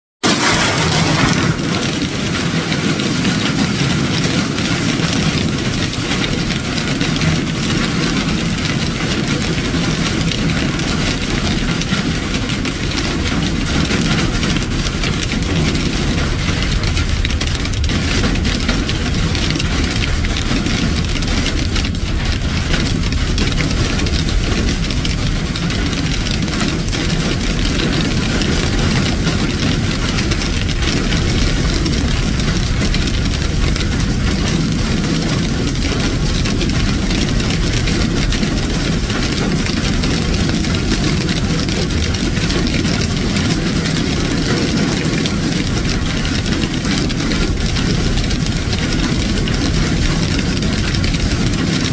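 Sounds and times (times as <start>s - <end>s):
hail pelting leaves and ground: 0.2s - 51.9s.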